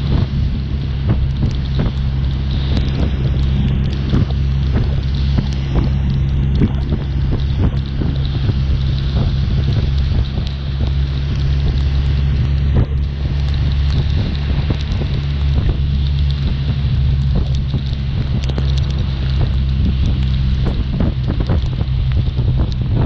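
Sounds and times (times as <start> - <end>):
rain ticking on microphone: 0.0 - 23.0
wind rush over microphone: 0.0 - 23.0.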